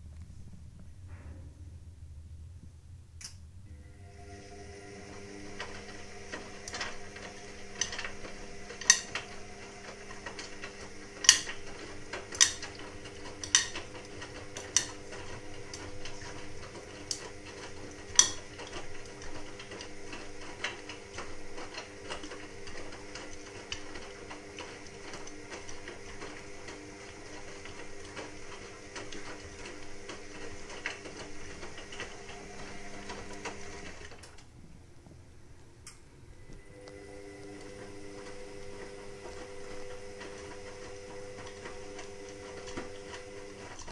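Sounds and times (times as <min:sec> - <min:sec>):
steady hum: 0:00.0 - 0:29.3, 0:31.1 - 0:43.8
washing machine clicking: 0:03.2 - 0:34.6, 0:35.8 - 0:43.9.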